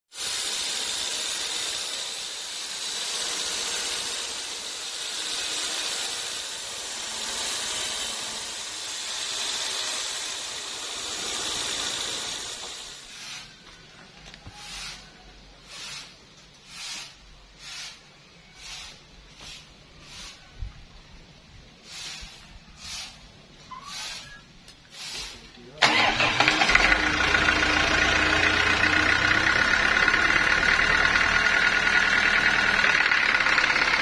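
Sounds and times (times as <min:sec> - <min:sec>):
band saw blade cutting log: 0:00.1 - 0:13.8, 0:14.5 - 0:18.0, 0:23.8 - 0:34.0.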